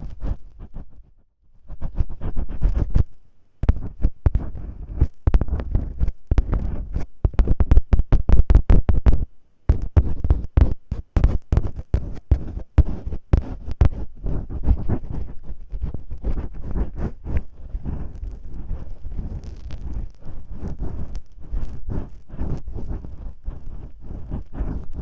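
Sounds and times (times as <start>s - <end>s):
tape crackling and scratching: 0.0s - 25.0s.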